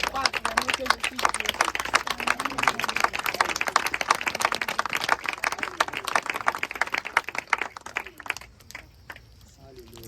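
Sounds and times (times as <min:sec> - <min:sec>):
people clapping: 0:00.0 - 0:10.0.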